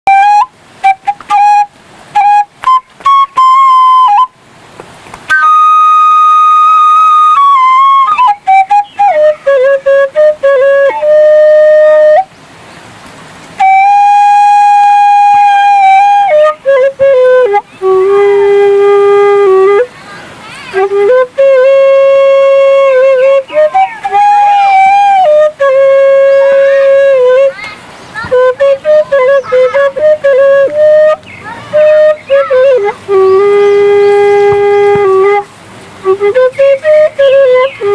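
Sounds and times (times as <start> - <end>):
flute melody: 0.0 - 4.4, 5.3 - 12.3, 13.6 - 19.9, 20.6 - 37.9.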